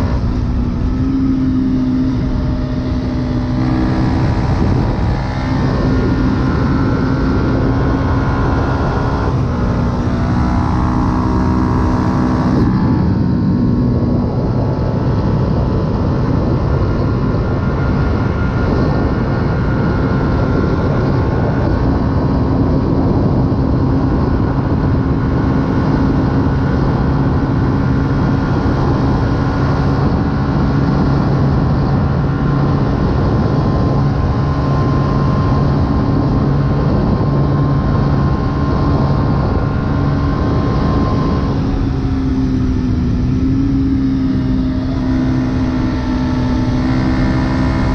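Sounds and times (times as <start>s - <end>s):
motorcycle engine cruising: 0.0s - 47.9s
wind rush: 0.0s - 47.9s.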